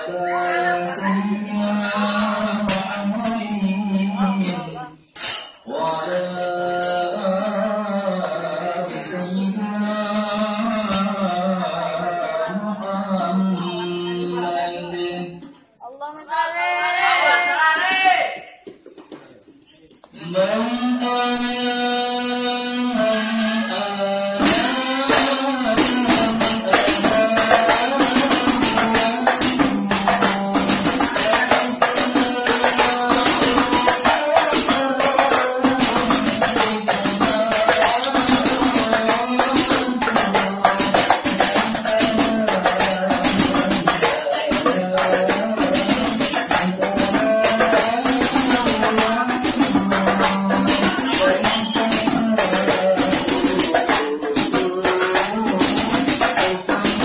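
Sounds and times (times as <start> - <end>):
devotional song: 0.0 - 15.7, 20.2 - 57.0
jingling tambourine percussion: 0.4 - 14.4, 17.8 - 21.6, 23.7 - 57.0.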